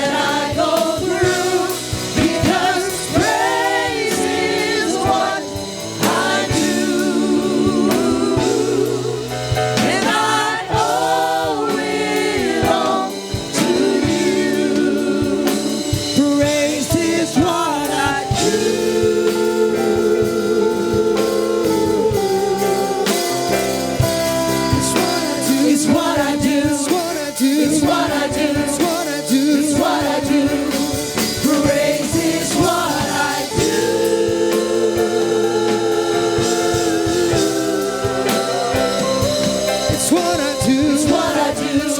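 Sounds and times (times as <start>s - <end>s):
gospel choir singing: 0.0s - 41.9s
live band playing: 0.0s - 41.9s.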